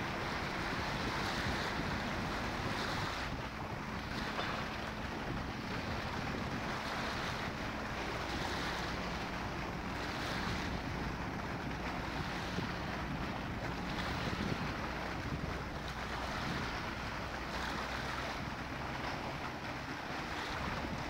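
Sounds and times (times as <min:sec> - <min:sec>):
waves lapping on rocky shore: 0:00.0 - 0:21.0
wind buffeting microphone: 0:00.0 - 0:21.0.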